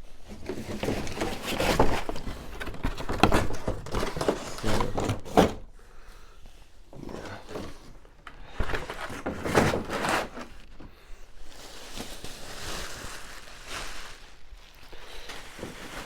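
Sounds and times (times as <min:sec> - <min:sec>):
packaging rustling and crinkling: 0:00.0 - 0:05.8, 0:06.8 - 0:16.0.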